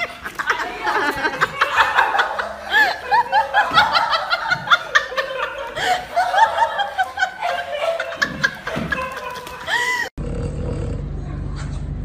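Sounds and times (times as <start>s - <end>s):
high-pitched laughter: 0.0s - 10.1s.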